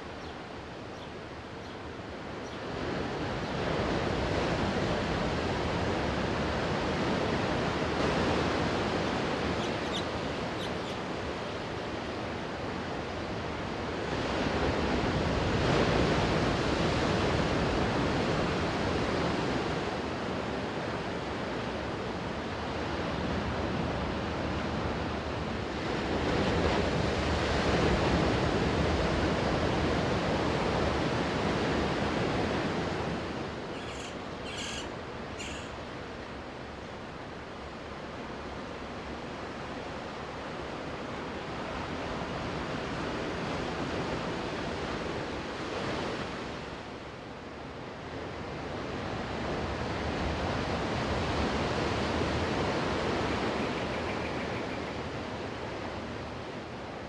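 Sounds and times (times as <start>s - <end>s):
sea waves washing on beach: 0.0s - 57.0s.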